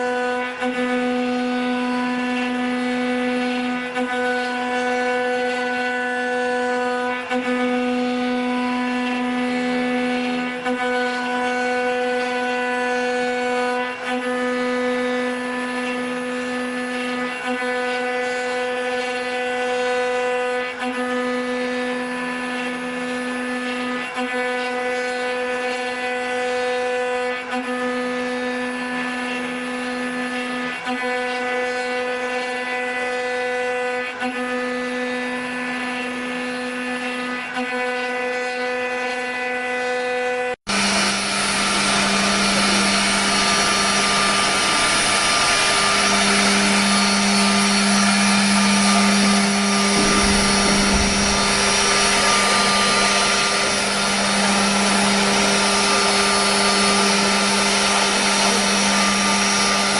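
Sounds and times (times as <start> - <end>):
router spindles whining: 0.0 - 59.9.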